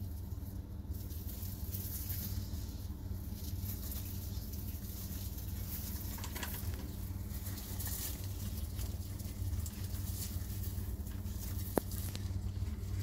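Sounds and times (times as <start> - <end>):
steady low hum: 0.0 - 13.0
lizards scratching on slate: 1.1 - 13.0.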